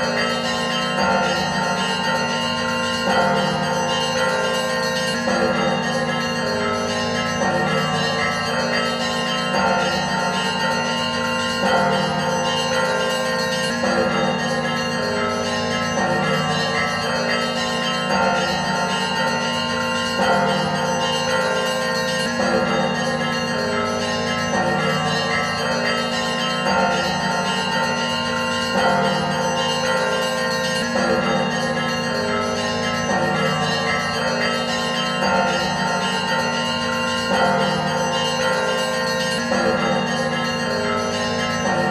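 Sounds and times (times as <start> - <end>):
church bells ringing a peal: 0.0 - 41.9.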